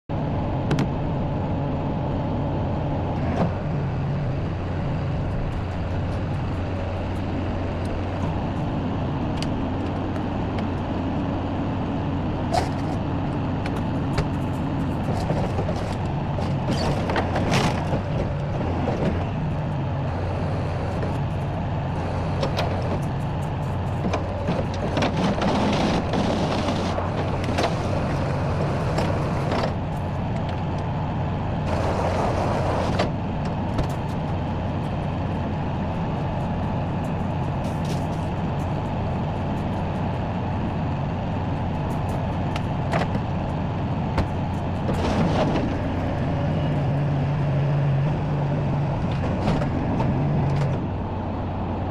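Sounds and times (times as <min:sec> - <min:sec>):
tow truck engine running: 0:00.1 - 0:51.9.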